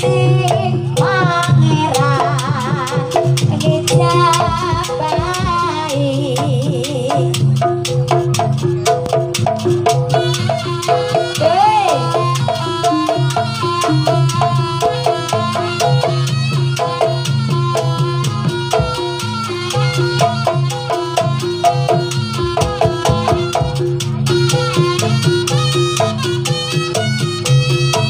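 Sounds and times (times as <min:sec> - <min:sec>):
gamelan music: 0:00.0 - 0:28.0
quick drum beat: 0:00.1 - 0:28.0.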